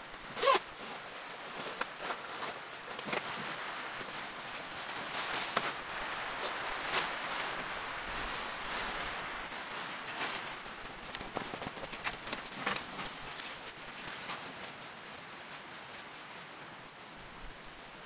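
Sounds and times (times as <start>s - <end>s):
nylon fabric rustling: 0.0s - 14.8s
rain on a tent roof: 0.0s - 18.0s.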